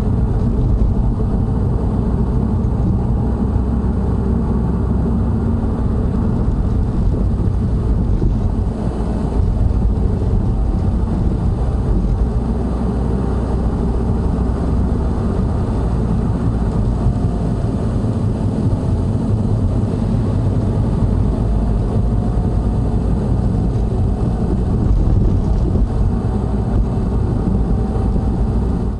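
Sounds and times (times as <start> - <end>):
car road noise rumble: 0.0 - 28.9.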